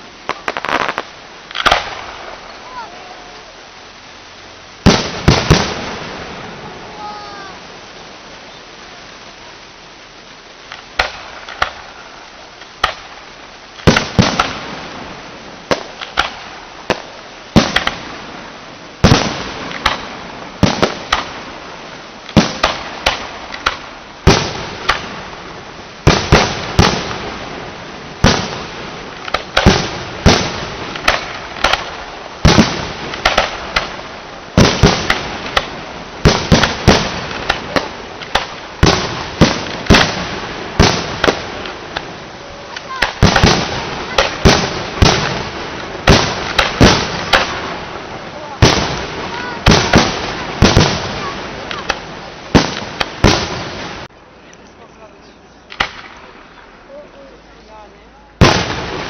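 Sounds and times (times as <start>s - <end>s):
fireworks bursting with echo: 0.0s - 3.6s, 4.8s - 9.5s, 10.5s - 54.2s, 55.6s - 59.0s.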